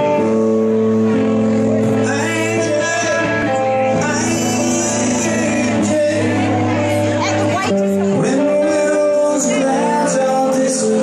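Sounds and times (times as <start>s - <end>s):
electric guitars and bass: 0.0s - 11.0s
man singing: 0.0s - 11.0s.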